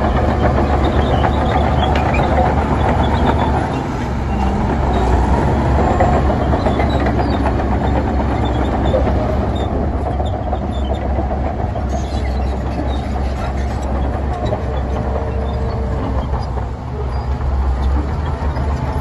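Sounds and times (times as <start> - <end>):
diesel earthmoving machinery running: 0.0 - 19.0
rattling clatter: 0.0 - 19.0.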